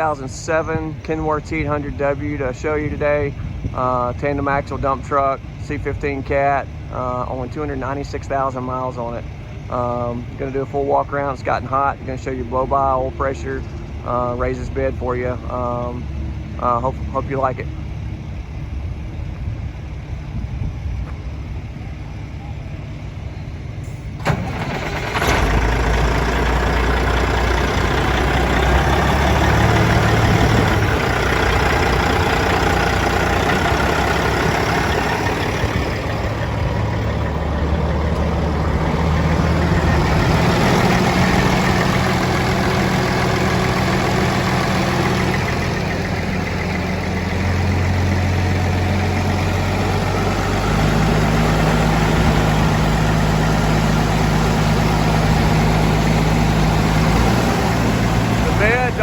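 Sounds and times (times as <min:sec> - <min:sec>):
diesel truck engine starting and idling: 0:00.0 - 0:59.0.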